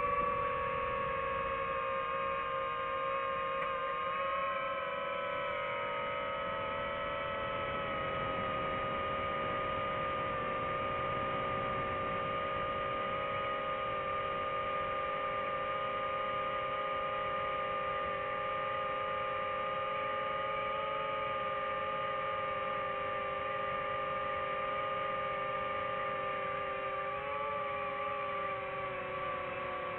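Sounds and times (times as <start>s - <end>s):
drone propellers whining: 0.0s - 29.9s.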